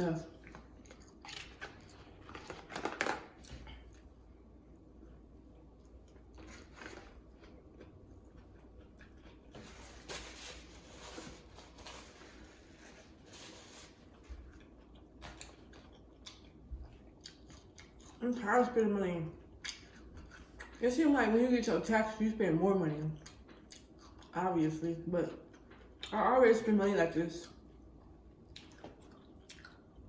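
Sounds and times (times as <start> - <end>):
person chewing and crunching food: 0.3 - 20.8, 23.1 - 24.4, 25.4 - 26.2, 27.4 - 30.0.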